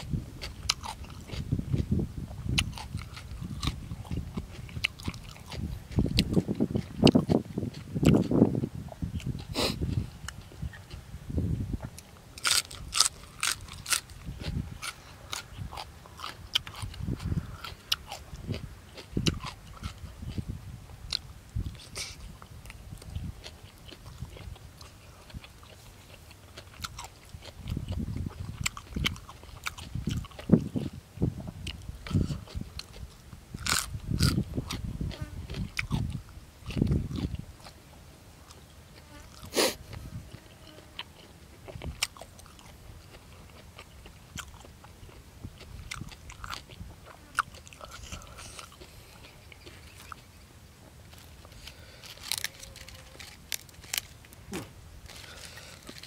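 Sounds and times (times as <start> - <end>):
crunchy bites: 0.0 - 11.0, 11.8 - 37.8, 38.4 - 50.3, 51.1 - 56.0
man chewing wetly: 0.0 - 37.8, 38.4 - 56.0.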